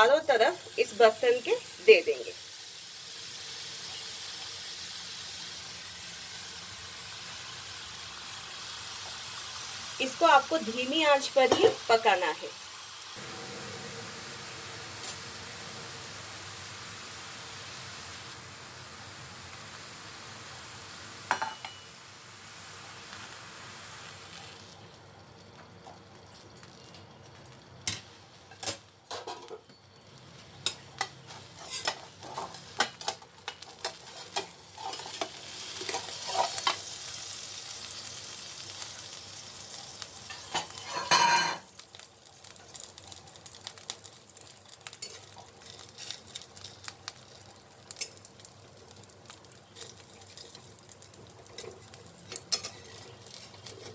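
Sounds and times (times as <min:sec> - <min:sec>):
batter sizzling in a wok: 0:00.0 - 0:53.9.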